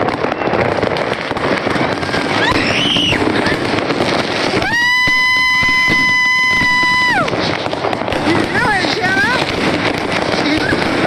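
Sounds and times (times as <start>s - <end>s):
firework whistle: 0.0s - 11.0s
fireworks crackling and popping: 0.0s - 11.0s.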